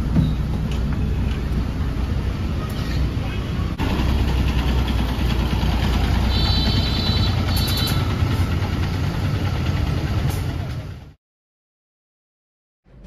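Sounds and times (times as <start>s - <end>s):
bus engine rumbling: 0.0s - 11.2s.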